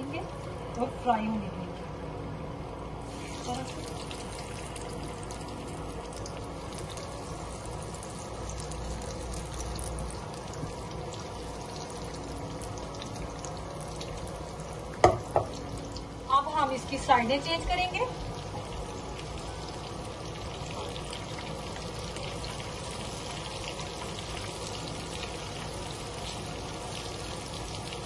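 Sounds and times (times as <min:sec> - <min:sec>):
fish sizzling in hot oil: 0:03.0 - 0:28.0.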